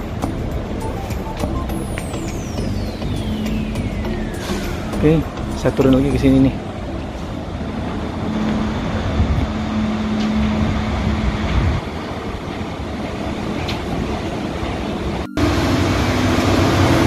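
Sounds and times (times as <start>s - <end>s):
city traffic noise: 0.0s - 17.0s
engine drone: 0.0s - 17.0s.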